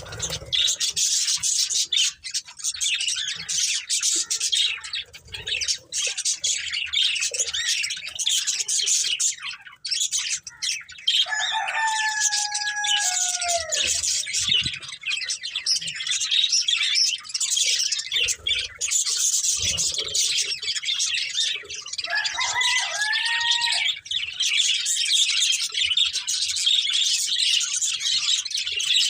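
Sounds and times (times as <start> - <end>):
budgerigars chattering and chirping: 0.0 - 29.0.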